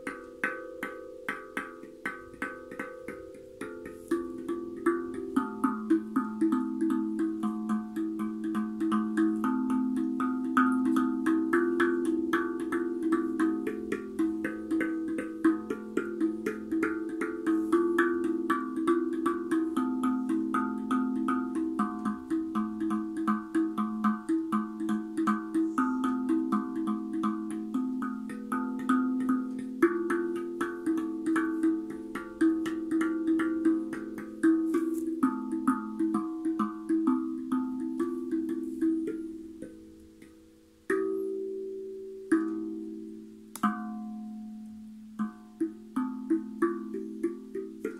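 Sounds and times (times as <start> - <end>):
steel tongue drum notes: 0.0 - 47.9.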